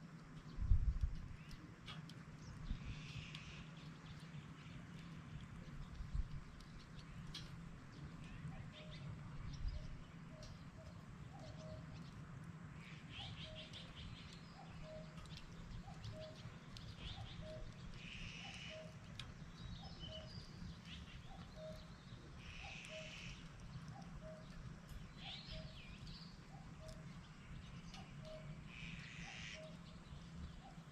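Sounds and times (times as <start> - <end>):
low steady hum: 0.0 - 30.9
wood fire crackling: 0.0 - 30.9
forest birds chirping: 0.3 - 30.9.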